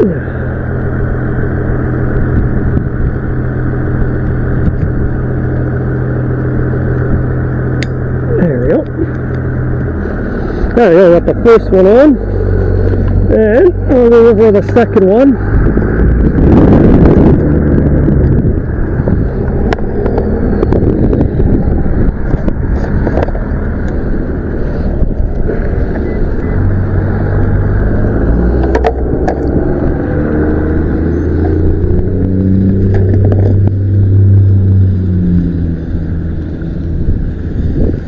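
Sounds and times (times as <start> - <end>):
motor vehicle engine running: 0.0 - 38.0.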